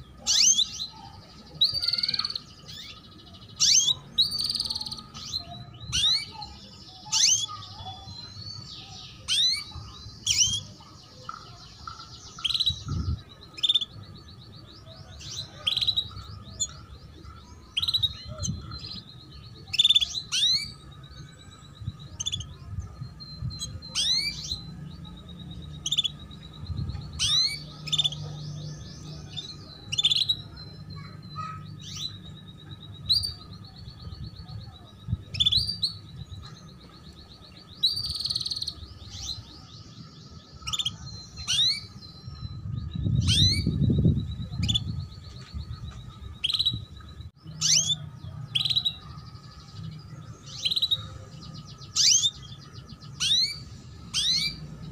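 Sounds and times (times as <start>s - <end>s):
canary chirps and trills: 0.0s - 54.9s.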